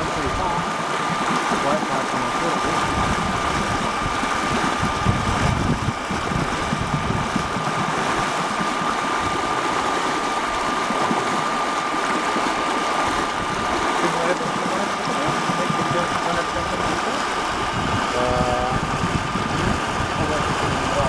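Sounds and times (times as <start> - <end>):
machine drone with high whine: 0.0 - 21.0.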